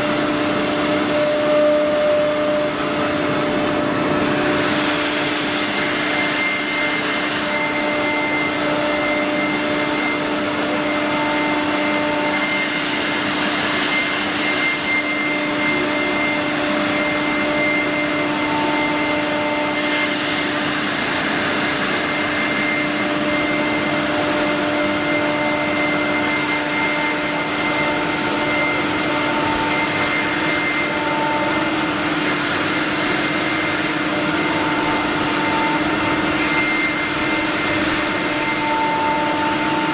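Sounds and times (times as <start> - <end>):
wood router whining: 0.0 - 39.9.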